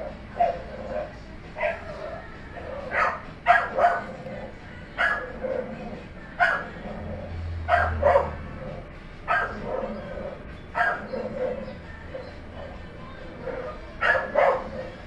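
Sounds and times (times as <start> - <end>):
dog barking: 0.0 - 4.3, 5.0 - 6.8, 7.7 - 8.6, 9.3 - 15.0.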